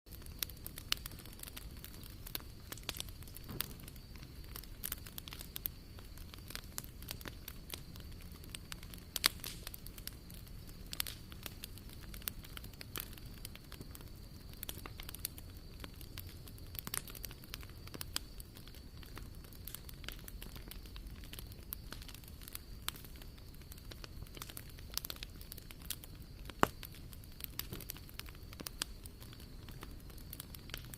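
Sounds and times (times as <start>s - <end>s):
bonfire crackling: 0.1s - 30.9s
sharp fire pops: 0.1s - 30.9s.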